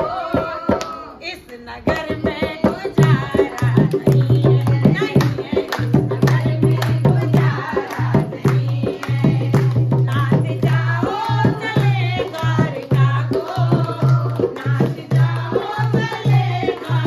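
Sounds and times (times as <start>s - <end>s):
women singing: 0.0s - 17.0s
hand clapping: 3.0s - 17.0s.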